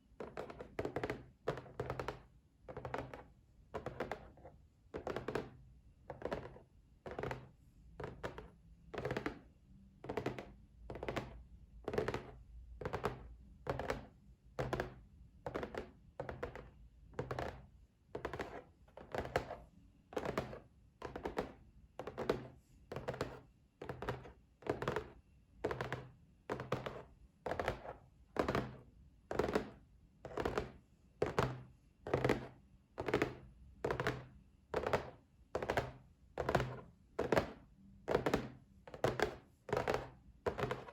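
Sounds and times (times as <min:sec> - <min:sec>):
fingers tapping on a box: 0:00.2 - 0:40.9.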